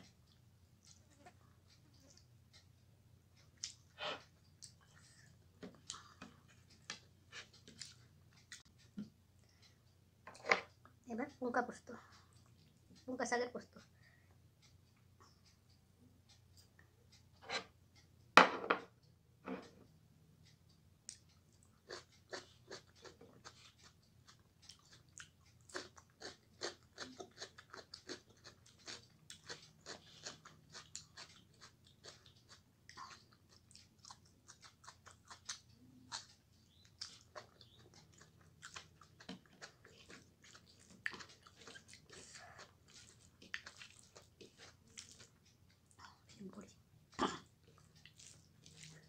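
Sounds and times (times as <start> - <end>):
person chewing food: 0.0 - 10.8, 20.4 - 49.0.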